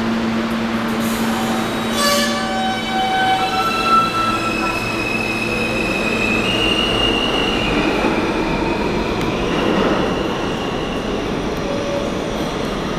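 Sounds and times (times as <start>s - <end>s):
subway train wheels rumbling: 0.0s - 12.9s
high squealing of train wheels: 1.0s - 12.9s.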